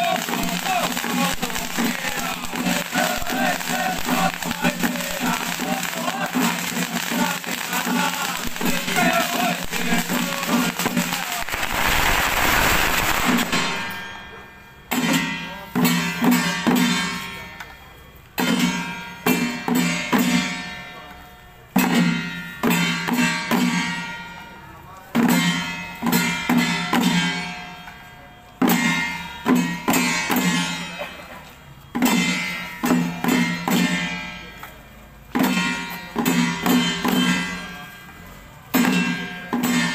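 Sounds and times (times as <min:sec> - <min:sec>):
handheld wooden-framed drums: 0:00.0 - 0:17.4, 0:25.1 - 0:39.9.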